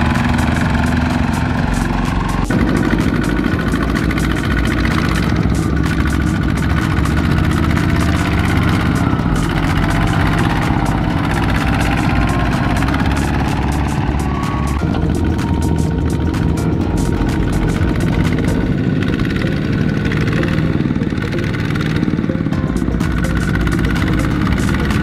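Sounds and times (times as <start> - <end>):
diesel engine running under load: 0.0 - 25.0.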